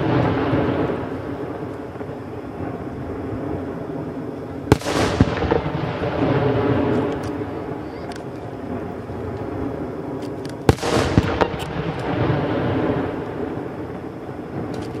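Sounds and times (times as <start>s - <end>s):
fireworks bangs: 0.0s - 15.0s
low rumble of reports: 0.0s - 15.0s.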